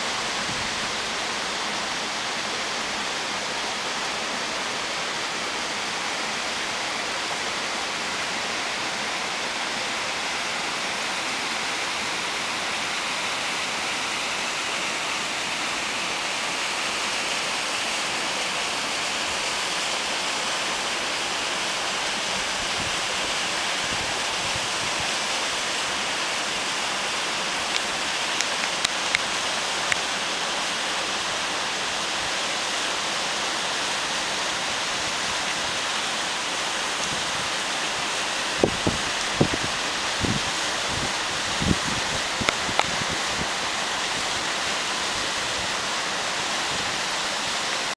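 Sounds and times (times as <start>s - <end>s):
waterfall rushing over rocks: 0.0s - 47.9s.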